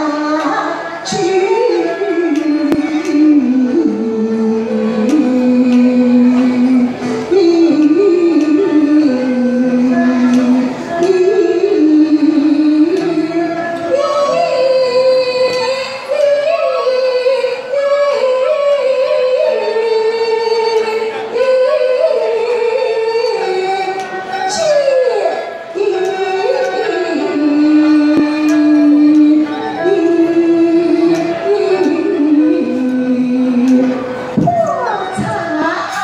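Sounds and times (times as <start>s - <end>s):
traditional instrumental ensemble: 0.0s - 36.0s
woman singing opera: 0.0s - 36.0s.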